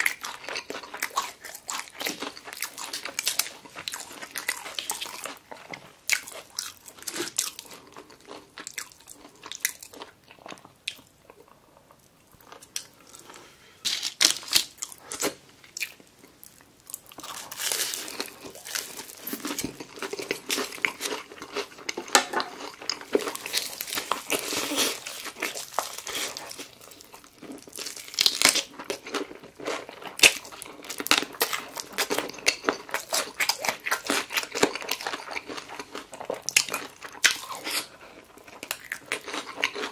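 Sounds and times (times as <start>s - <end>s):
crunchy fried chicken chewing: 0.0s - 39.9s.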